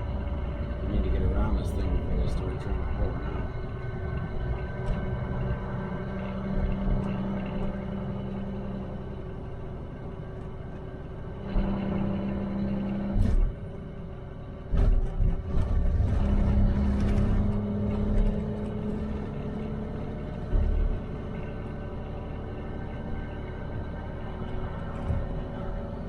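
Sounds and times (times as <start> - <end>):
loud low rumble: 0.0 - 26.0
road noise: 0.0 - 26.0
truck engine drone: 0.0 - 26.0.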